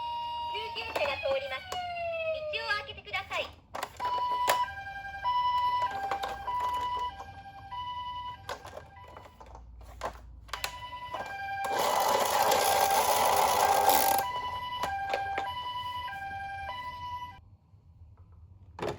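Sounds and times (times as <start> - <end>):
toy two-tone electronic siren: 0.0 - 2.7, 4.0 - 9.6, 10.5 - 17.4.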